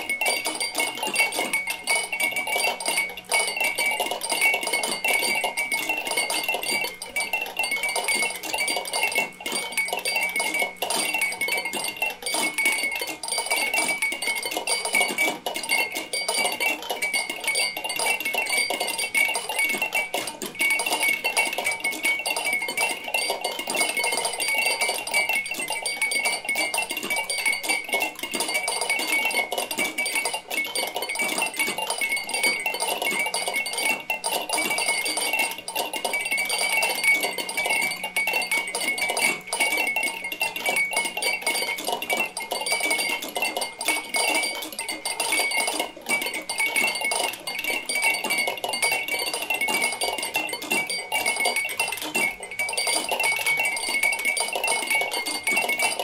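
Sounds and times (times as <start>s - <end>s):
glass toys clicking and clinking: 0.0s - 56.0s
glassy ringing: 0.0s - 56.0s.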